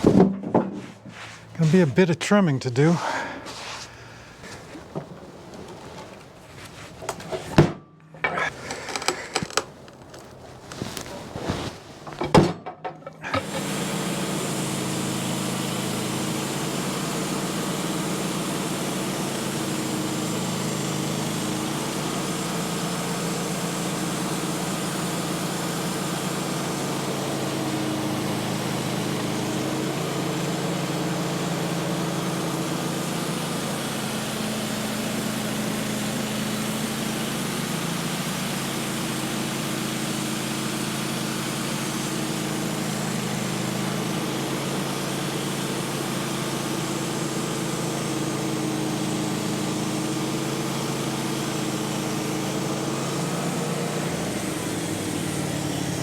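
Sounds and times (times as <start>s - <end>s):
gasoline engine running: 1.0s - 12.4s, 13.0s - 56.0s.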